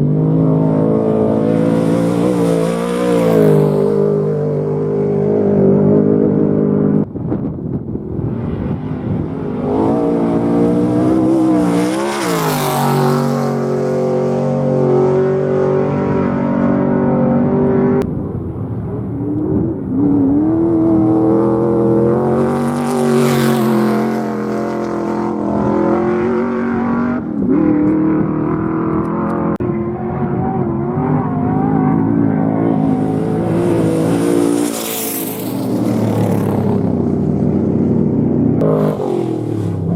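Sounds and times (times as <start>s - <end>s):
off-road vehicle engines revving: 0.0s - 7.1s, 8.1s - 18.2s, 18.8s - 39.9s
vehicles sweeping past: 0.0s - 39.9s.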